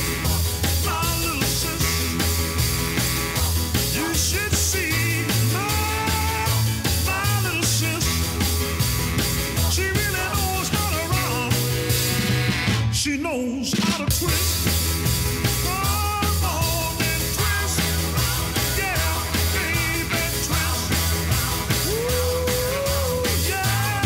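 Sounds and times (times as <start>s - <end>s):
bass guitar: 0.0s - 24.0s
person singing: 0.0s - 24.0s
steady drum beat: 0.0s - 24.0s.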